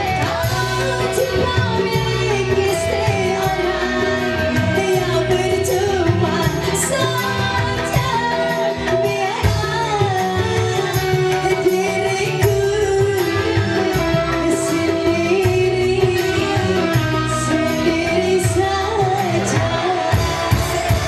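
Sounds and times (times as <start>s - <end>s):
electric keyboard: 0.0s - 21.0s
hand drums beat: 0.0s - 21.0s
woman singing into a microphone: 0.0s - 21.0s.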